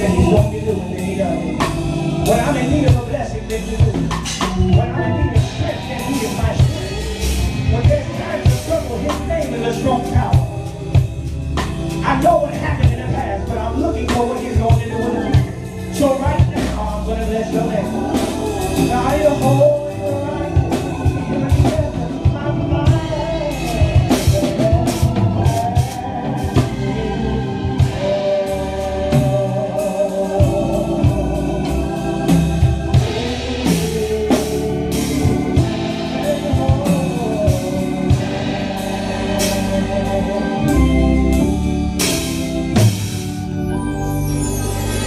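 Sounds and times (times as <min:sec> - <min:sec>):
person singing: 0:00.0 - 0:11.0, 0:11.9 - 0:42.2
drum kit with cymbal crashes: 0:00.0 - 0:43.6
organ: 0:00.0 - 0:45.0.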